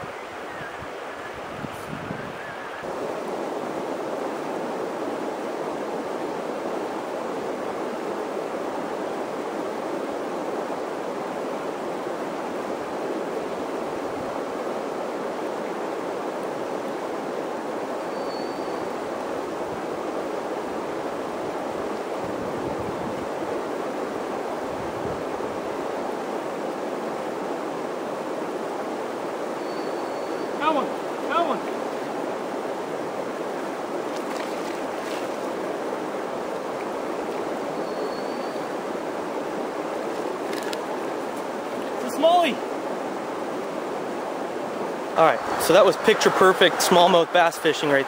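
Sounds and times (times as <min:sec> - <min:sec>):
river rapids rushing: 0:02.5 - 0:48.0.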